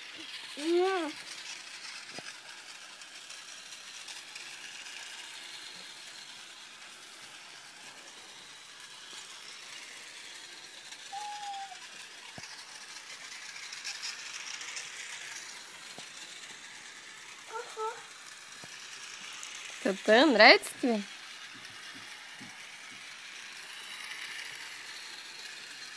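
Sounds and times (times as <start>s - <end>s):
toy train rattling on track: 0.0s - 25.9s.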